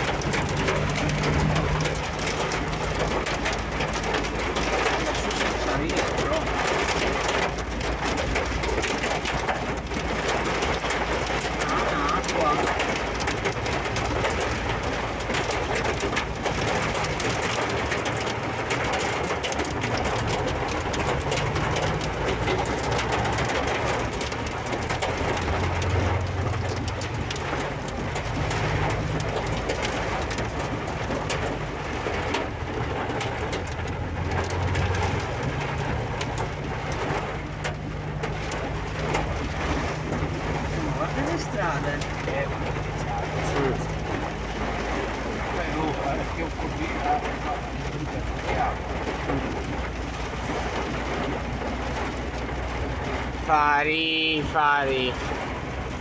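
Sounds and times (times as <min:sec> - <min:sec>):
heavy rain and hail on a vehicle roof: 0:00.0 - 0:56.0.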